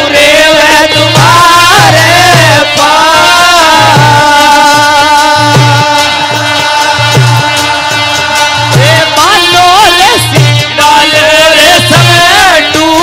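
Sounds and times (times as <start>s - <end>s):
man singing folk melody: 0.0s - 13.0s.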